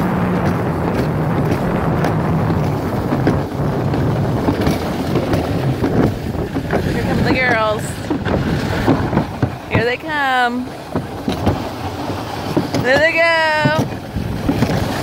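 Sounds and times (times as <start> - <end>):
sled rolling rumble: 0.0 - 15.0
wind buffeting microphone: 0.0 - 15.0.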